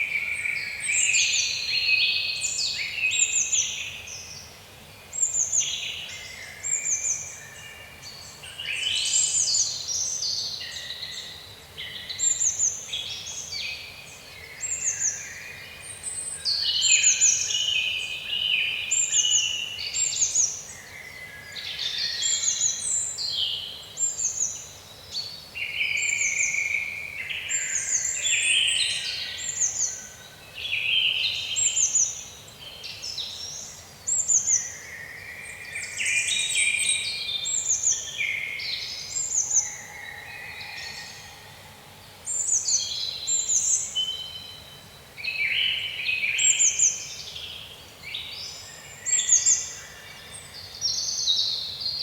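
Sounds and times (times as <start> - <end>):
songbirds singing: 0.0 - 52.0.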